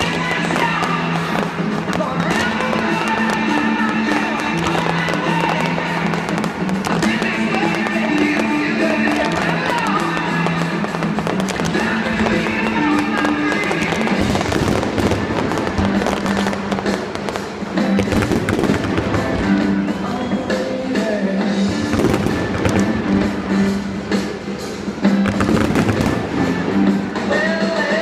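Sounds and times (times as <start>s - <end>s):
fireworks bangs and crackles: 0.0s - 28.0s
music playing: 0.0s - 28.0s.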